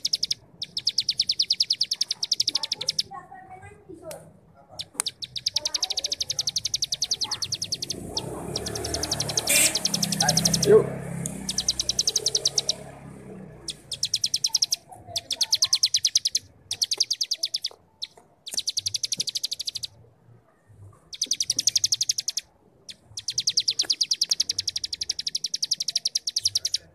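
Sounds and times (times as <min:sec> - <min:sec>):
bird singing buzzy trills: 0:00.0 - 0:03.1, 0:04.8 - 0:20.0, 0:21.1 - 0:26.9.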